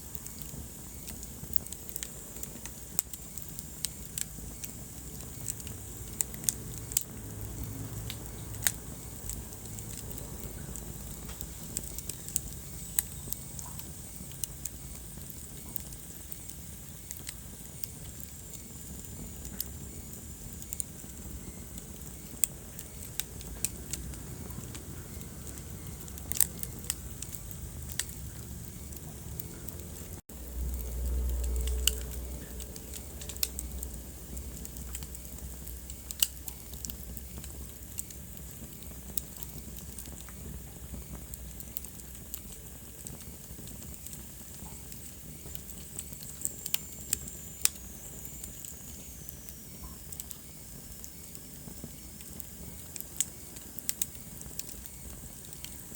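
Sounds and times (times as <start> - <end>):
low rumble of burning: 0.0 - 55.9
wood fire crackling: 0.0 - 55.9.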